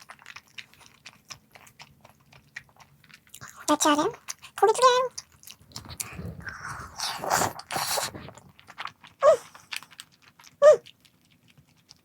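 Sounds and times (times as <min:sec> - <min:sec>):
crunching and chewing: 0:00.0 - 0:12.0.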